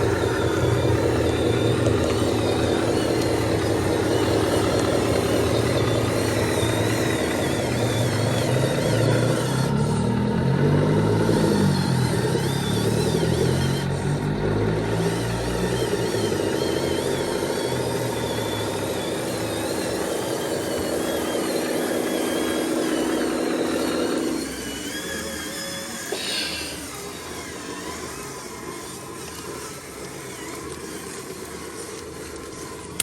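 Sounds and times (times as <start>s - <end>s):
high wavering whine: 0.0s - 33.0s
truck diesel engine under load: 0.0s - 33.0s.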